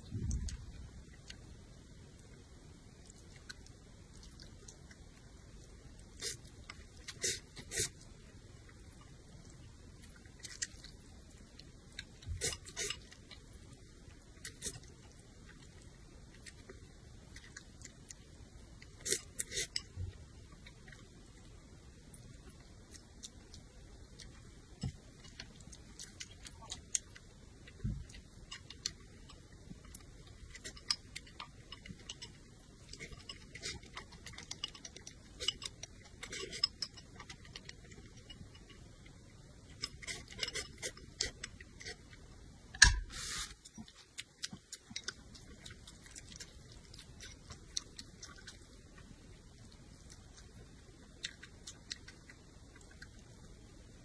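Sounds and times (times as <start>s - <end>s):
chewing and smacking noodles: 3.0s - 42.3s, 43.6s - 53.4s.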